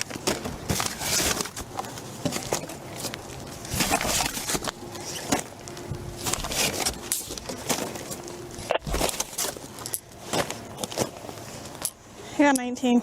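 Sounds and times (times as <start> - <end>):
cardboard boxes being moved: 0.0 - 11.7.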